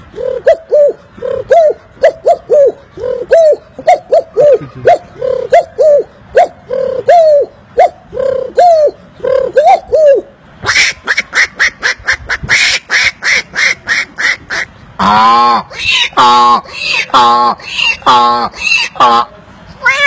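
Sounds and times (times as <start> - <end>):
man imitating bird calls: 0.0 - 20.0
man imitating duck quacks: 0.1 - 19.3.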